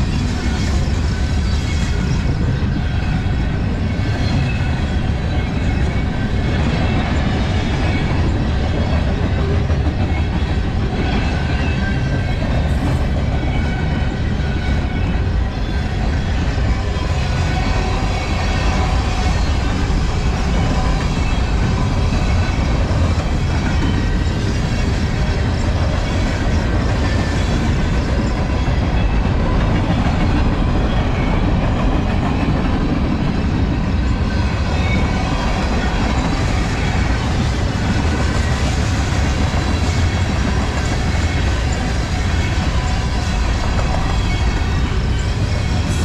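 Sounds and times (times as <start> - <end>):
train wheels running on rails: 0.0 - 46.0.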